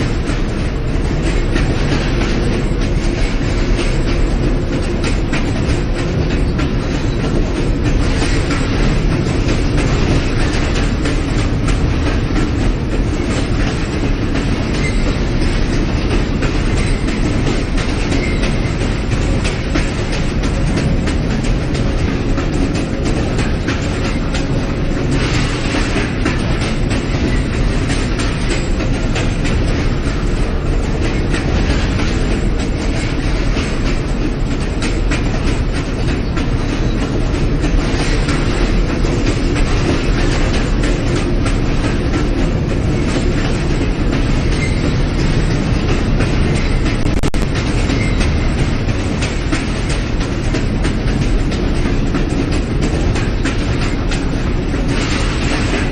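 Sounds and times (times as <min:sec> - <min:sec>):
train wheels rumbling on rail: 0:00.0 - 0:55.9
wheels clicking over rail joints: 0:00.0 - 0:55.9.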